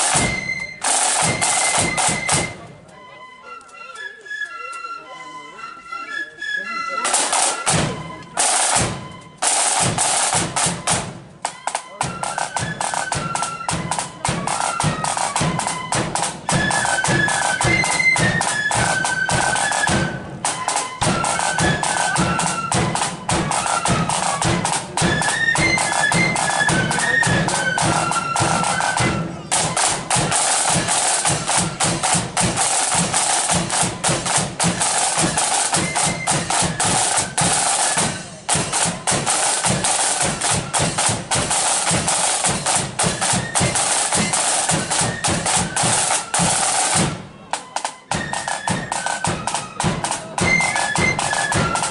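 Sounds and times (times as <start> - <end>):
snare and bass drums: 0.0 - 2.7, 7.1 - 51.9
flutes playing melody: 0.0 - 51.9.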